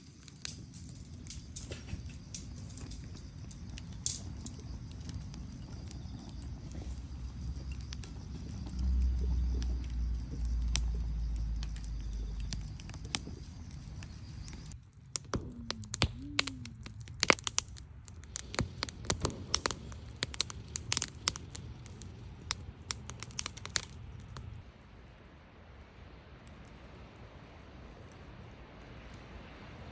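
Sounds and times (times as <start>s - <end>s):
wood fire crackling and popping: 0.0s - 24.6s
low rumble: 0.0s - 25.3s.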